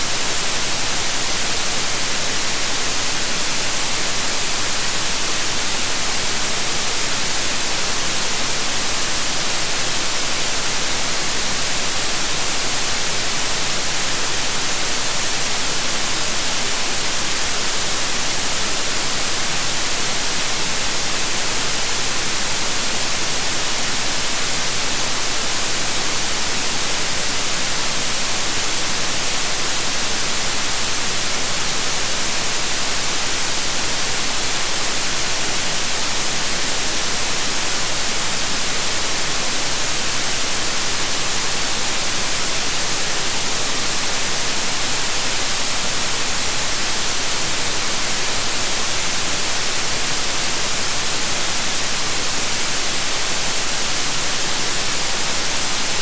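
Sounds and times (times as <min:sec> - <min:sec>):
electronic white noise hiss: 0:00.0 - 0:56.0.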